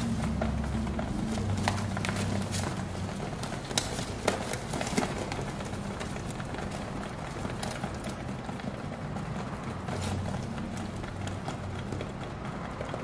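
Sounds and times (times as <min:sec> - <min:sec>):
steady low hum: 0:00.0 - 0:12.6
pigeons pecking on metal: 0:00.0 - 0:13.0.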